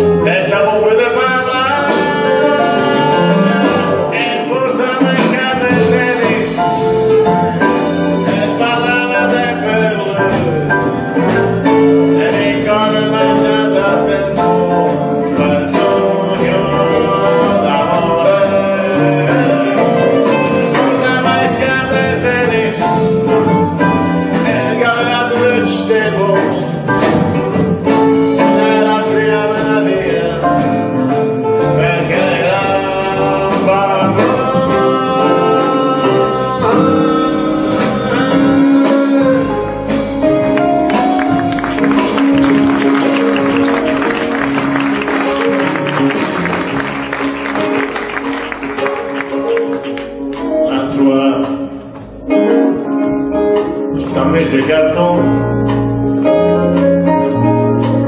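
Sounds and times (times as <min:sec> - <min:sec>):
man singing: 0:00.0 - 0:27.2, 0:27.8 - 0:48.0, 0:50.4 - 0:53.1, 0:53.8 - 0:58.0
live jazzy band music: 0:00.0 - 0:58.0.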